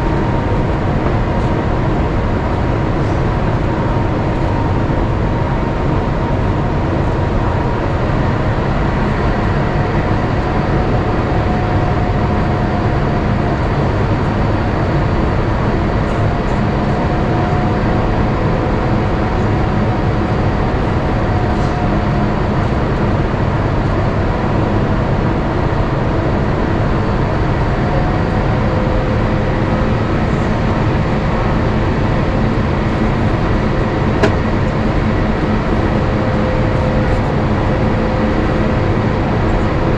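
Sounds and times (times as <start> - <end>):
airplane cabin airflow rush: 0.0 - 39.9.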